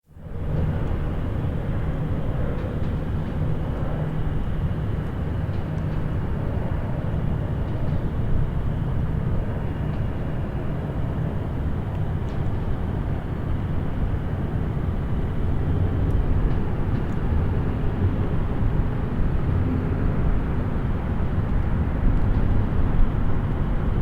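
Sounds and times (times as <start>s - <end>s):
distant highway traffic rumble: 0.1s - 24.0s.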